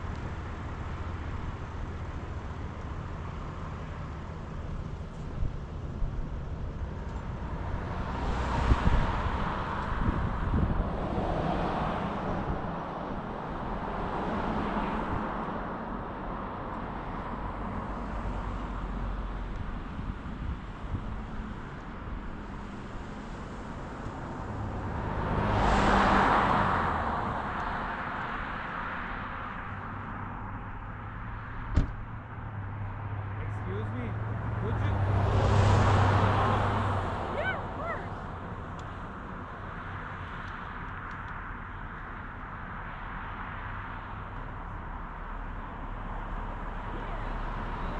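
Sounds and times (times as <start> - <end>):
passing vehicle: 0.0 - 47.9
tyre and engine noise: 0.0 - 47.9.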